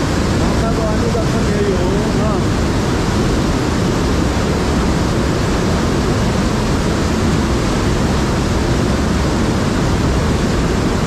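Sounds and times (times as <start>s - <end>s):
white water rushing: 0.0s - 11.0s.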